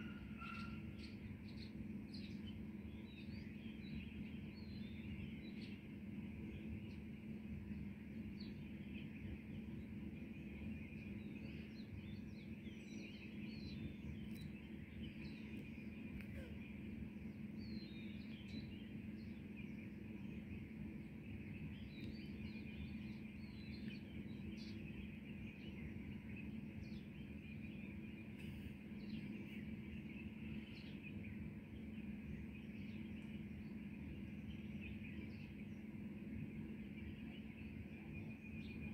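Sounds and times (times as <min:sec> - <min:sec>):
birds chirping: 0:00.0 - 0:38.9
low background hum: 0:00.0 - 0:38.9.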